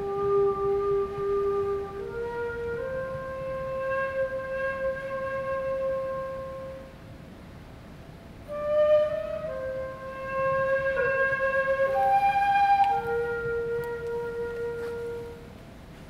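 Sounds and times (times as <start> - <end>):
bamboo flute slow melody: 0.0 - 7.0, 8.4 - 16.0.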